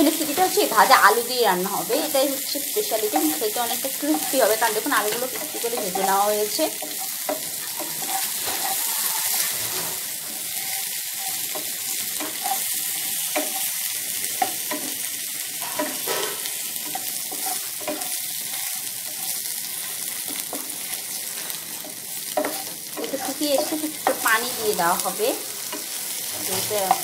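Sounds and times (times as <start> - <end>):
oil sizzling in a frying pan: 0.0 - 27.0
spatula tapping and scraping pan: 1.8 - 27.0.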